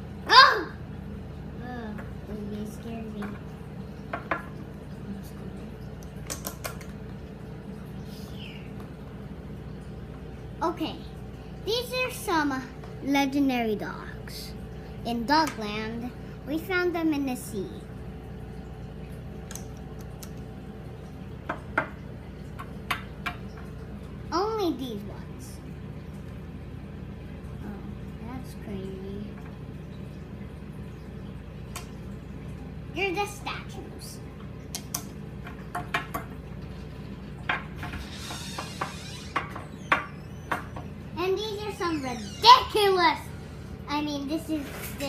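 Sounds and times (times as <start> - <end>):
low background hum: 0.0 - 45.0.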